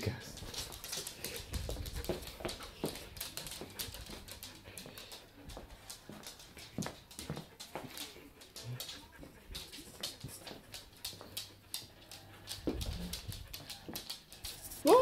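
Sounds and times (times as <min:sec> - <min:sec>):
dog claws clicking on wood floor: 0:00.2 - 0:15.0.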